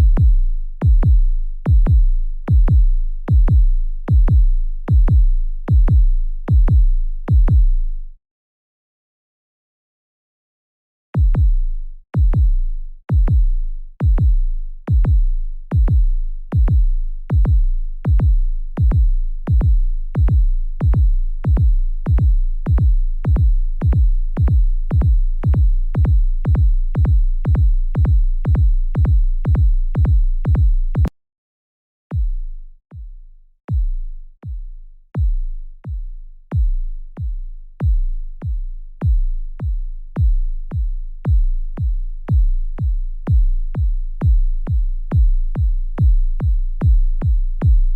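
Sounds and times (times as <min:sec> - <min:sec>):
deep electronic bass-drum hits: 0:00.0 - 0:07.9, 0:11.2 - 0:31.1, 0:32.1 - 0:47.9.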